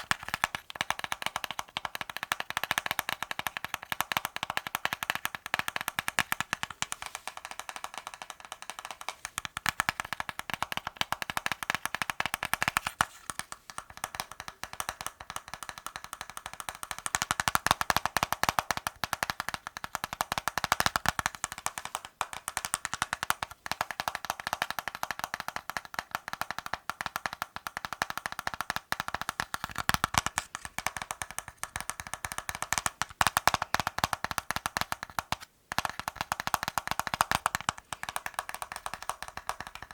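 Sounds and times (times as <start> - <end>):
fast tapping on hard objects: 0.0 - 39.9.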